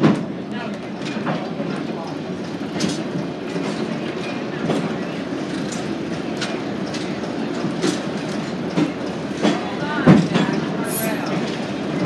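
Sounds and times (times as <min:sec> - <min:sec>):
train rolling rumble: 0:00.0 - 0:12.0
wheels clicking over rail joints: 0:00.0 - 0:12.0.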